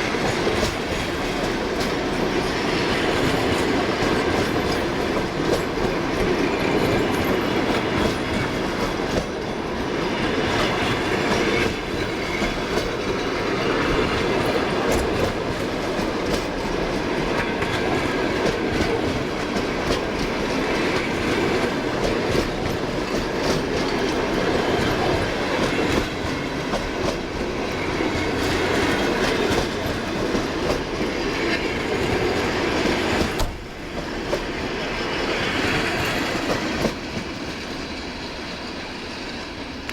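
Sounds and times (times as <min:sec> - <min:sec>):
train carriages rolling past: 0:00.0 - 0:39.9
wheels clicking over rail joints: 0:00.1 - 0:39.9.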